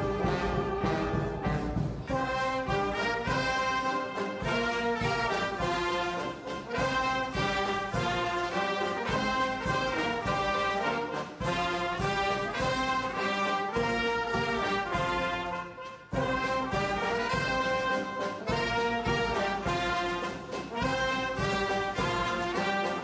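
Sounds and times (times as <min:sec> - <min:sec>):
orchestral brass music: 0:00.0 - 0:23.0.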